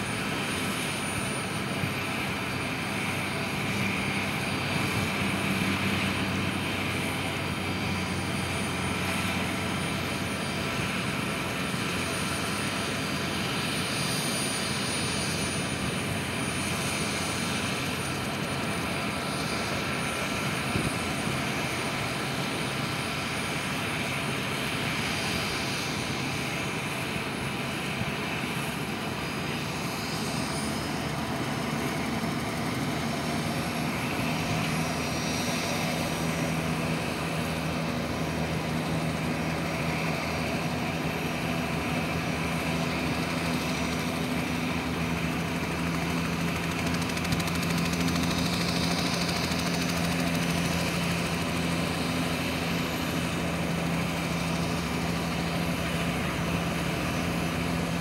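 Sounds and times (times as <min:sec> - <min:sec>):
helicopter engine whine: 0:00.0 - 0:58.0
helicopter rotor rush: 0:00.0 - 0:58.0.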